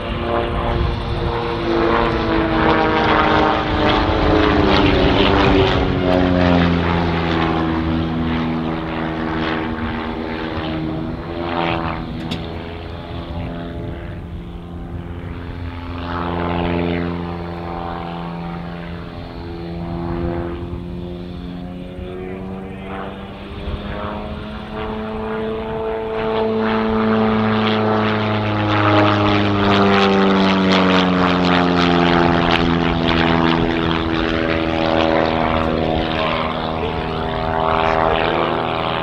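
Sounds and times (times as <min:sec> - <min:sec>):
propeller plane engine overhead: 0:00.0 - 0:39.0.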